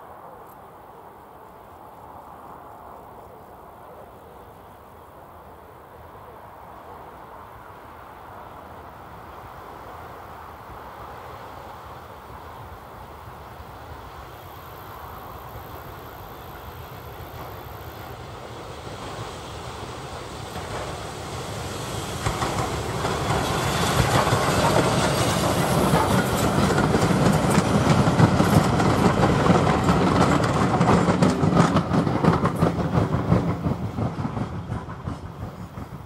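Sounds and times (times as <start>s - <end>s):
steam train passing: 0.0s - 36.0s.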